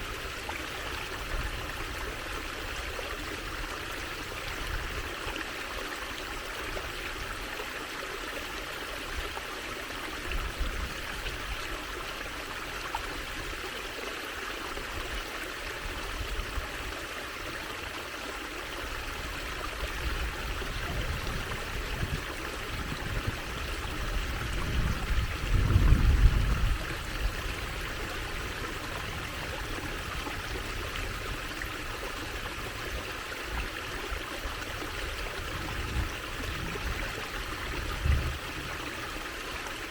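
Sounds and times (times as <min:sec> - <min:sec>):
water trickling in a stream: 0:00.0 - 0:39.9.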